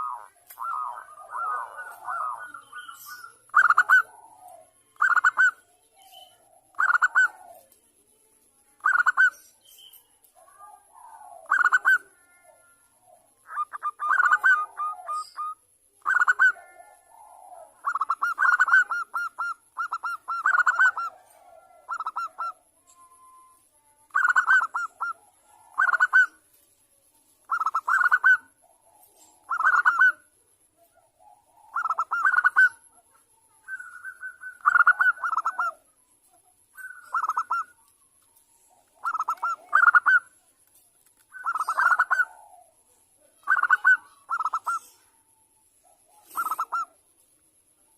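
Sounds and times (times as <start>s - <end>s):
dove cooing: 0.0s - 7.8s, 10.4s - 23.5s, 24.1s - 26.4s, 27.4s - 35.9s, 36.8s - 37.9s, 38.5s - 40.4s, 41.3s - 45.2s, 45.8s - 47.0s.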